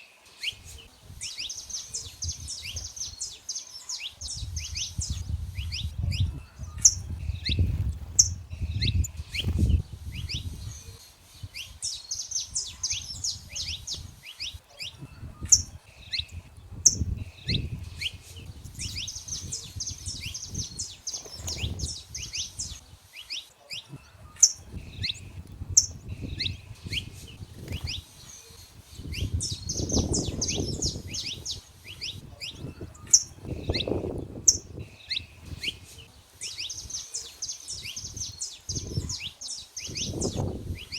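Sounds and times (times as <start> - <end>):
finches chipping song: 0.0 - 40.9.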